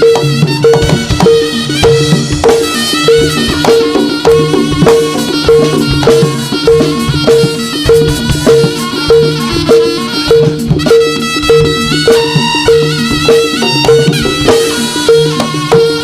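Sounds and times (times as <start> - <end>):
tuned metal percussion and drums: 0.0 - 16.0.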